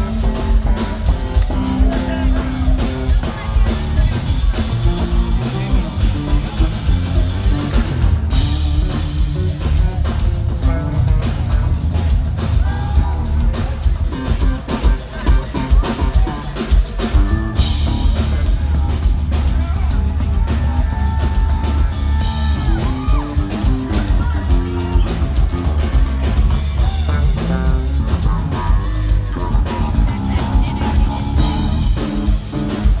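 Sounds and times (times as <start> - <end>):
drum kit: 0.0 - 33.0
electric bass guitars groove: 0.0 - 33.0.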